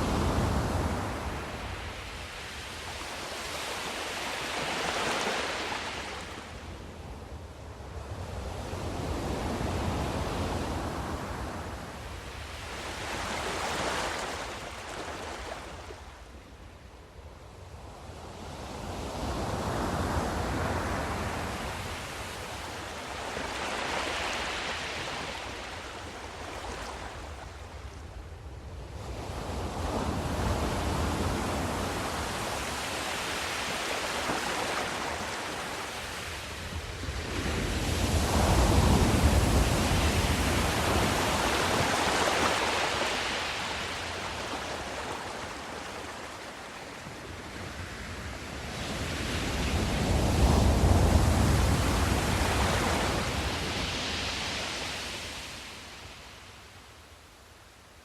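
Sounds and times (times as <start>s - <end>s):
ocean waves surging and washing back: 0.0s - 58.0s.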